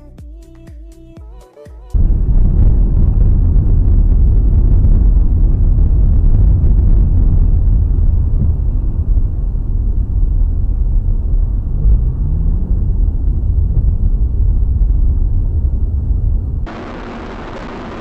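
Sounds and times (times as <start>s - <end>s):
vehicle engine and road rumble: 2.0s - 18.0s.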